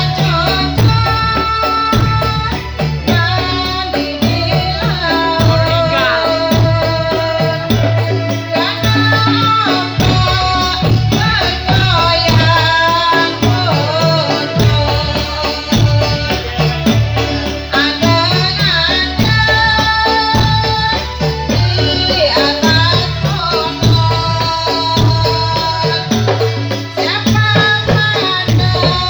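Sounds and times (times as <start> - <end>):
sung melody: 0.0 - 27.1
drums beating: 0.0 - 29.0.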